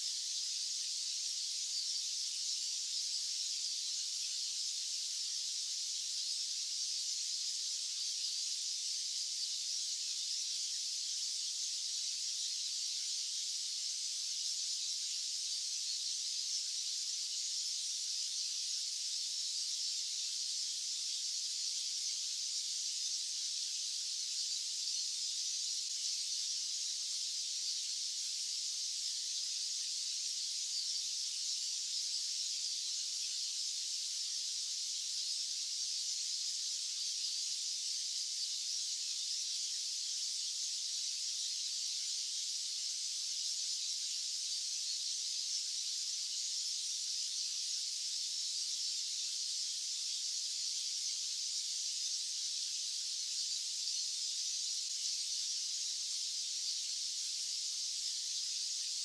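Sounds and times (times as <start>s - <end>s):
high-pitched white noise hiss: 0.0s - 59.0s.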